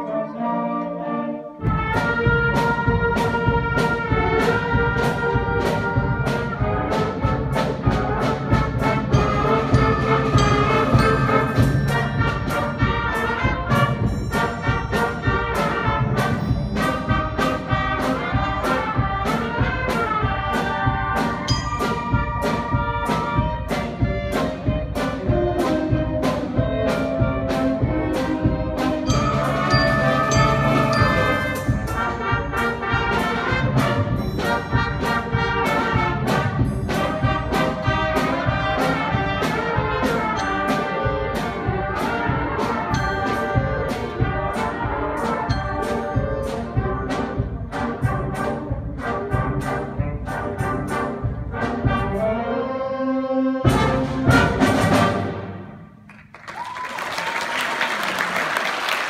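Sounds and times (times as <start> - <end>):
saxophones and brass: 0.0 - 56.0
school band playing: 0.0 - 59.0
steady drum beat: 1.6 - 52.4, 53.7 - 55.8.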